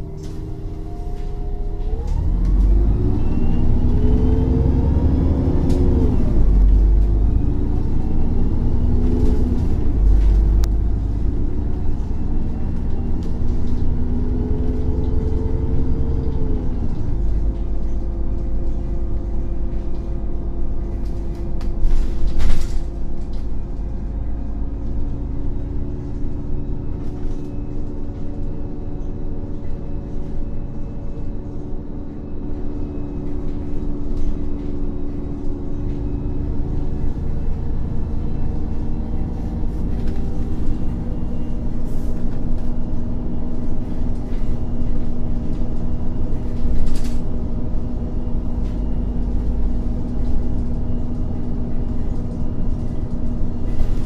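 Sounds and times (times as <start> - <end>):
bus engine pulling away: 0.0 - 54.0.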